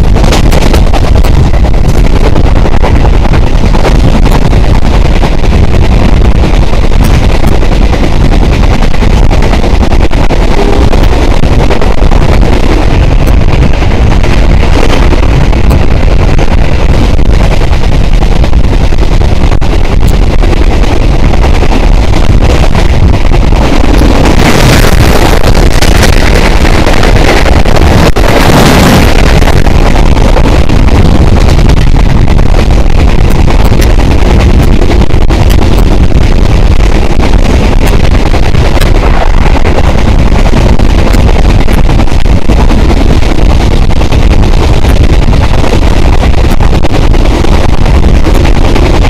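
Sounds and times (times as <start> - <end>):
train rushing rumble: 0.0 - 49.0
wind on microphone: 0.0 - 49.0.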